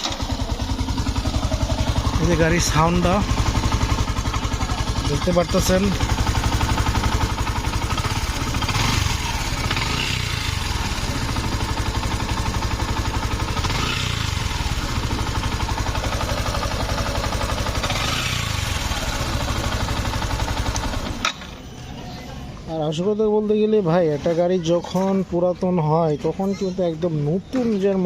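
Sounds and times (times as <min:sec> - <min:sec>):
motorcycle engine running: 0:00.0 - 0:22.7.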